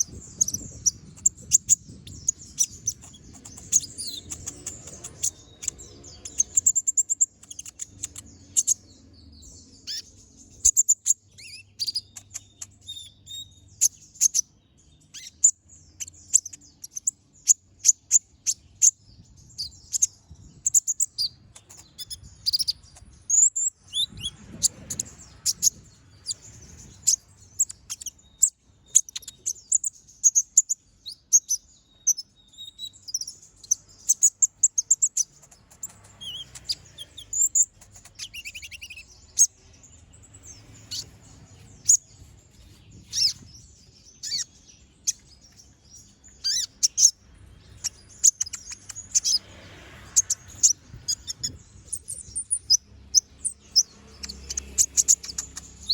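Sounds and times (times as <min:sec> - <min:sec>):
bird singing high sharp chirps: 0:00.0 - 0:55.9.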